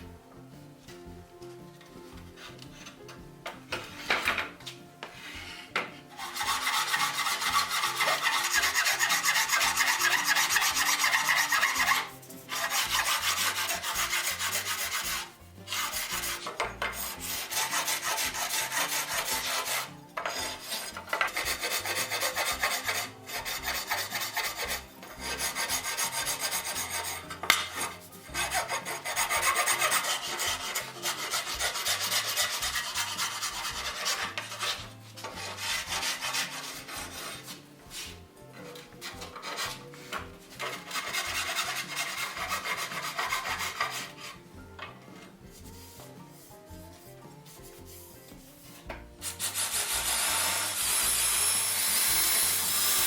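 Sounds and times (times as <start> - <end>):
hand rasp scraping wood: 5.0 - 53.0.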